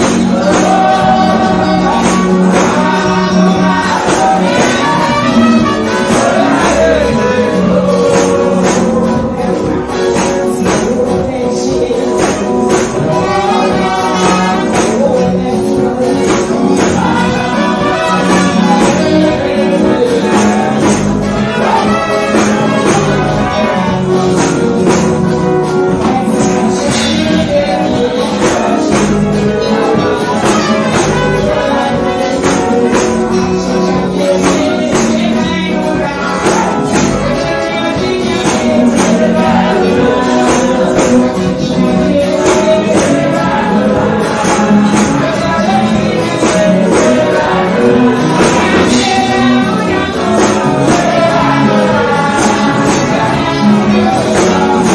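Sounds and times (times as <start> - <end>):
band with steady dance beat: 0.0 - 54.9.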